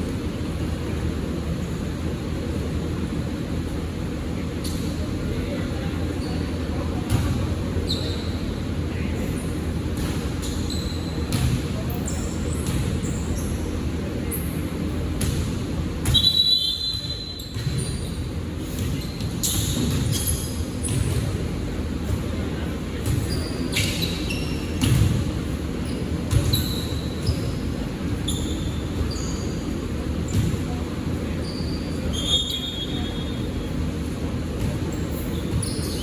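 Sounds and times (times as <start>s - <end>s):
gym background noise: 0.0s - 36.0s
sneaker squeaks on floor: 6.1s - 22.4s, 23.0s - 36.0s.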